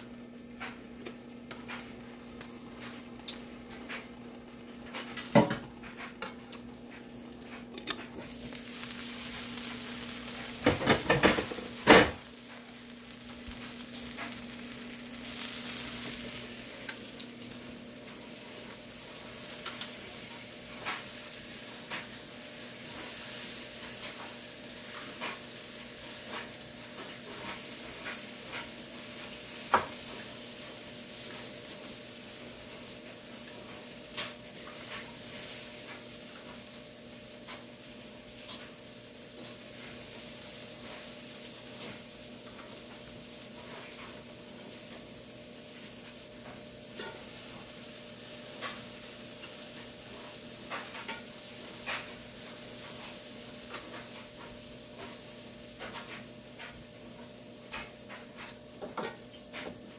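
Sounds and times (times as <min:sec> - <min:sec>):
food sizzling with crackling pops: 0:00.0 - 0:59.9.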